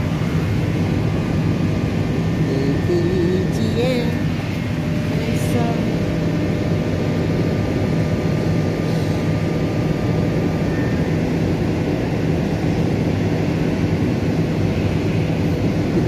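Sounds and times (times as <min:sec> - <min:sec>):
low mechanical machine drone: 0:00.0 - 0:16.0.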